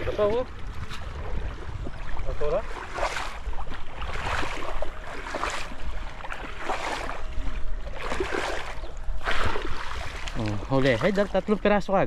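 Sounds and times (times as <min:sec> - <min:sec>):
water sloshing and splashing: 0:00.0 - 0:12.0
wind buffeting microphone: 0:00.0 - 0:12.0.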